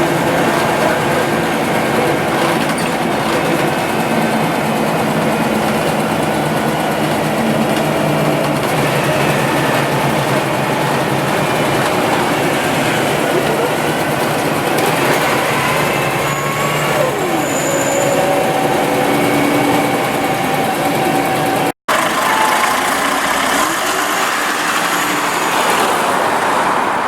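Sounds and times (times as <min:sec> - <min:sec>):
bus running: 0:00.0 - 0:27.0.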